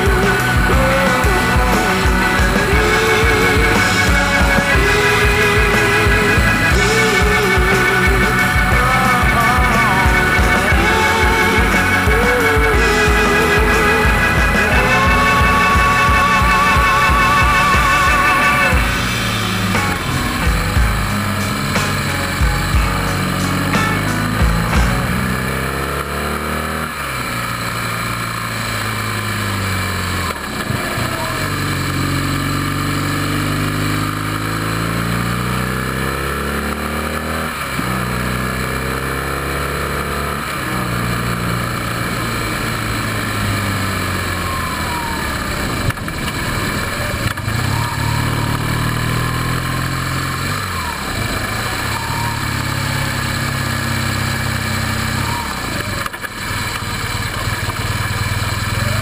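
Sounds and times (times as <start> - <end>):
motorcycle engine pulling hard: 0.0 - 59.0.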